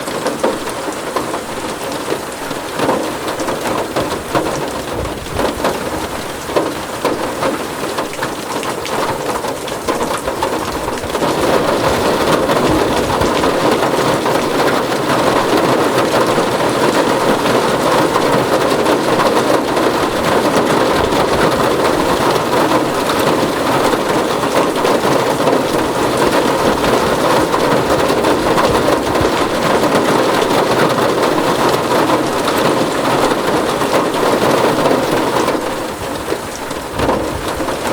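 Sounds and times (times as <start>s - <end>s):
rain on a tin roof: 0.0s - 37.9s.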